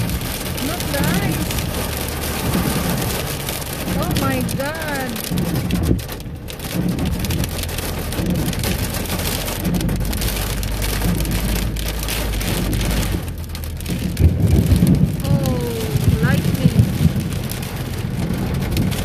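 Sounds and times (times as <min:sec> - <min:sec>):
car hum: 0:00.0 - 0:19.0
rain and ice pelting car: 0:00.0 - 0:19.0.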